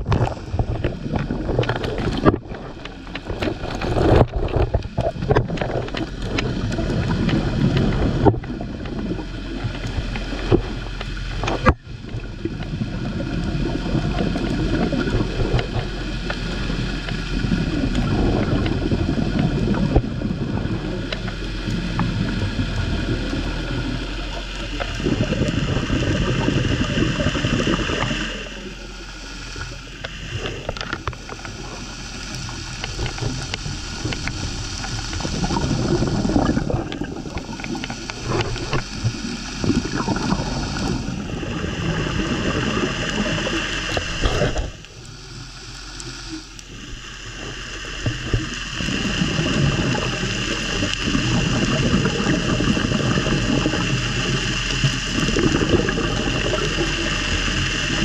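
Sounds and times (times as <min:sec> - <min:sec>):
steady hum: 0:00.0 - 0:58.0
underwater air bubbles gurgling: 0:00.0 - 0:58.0.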